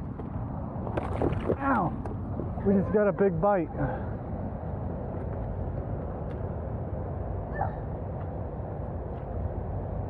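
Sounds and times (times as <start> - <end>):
outdoor background rumble and hiss: 0.0 - 10.0.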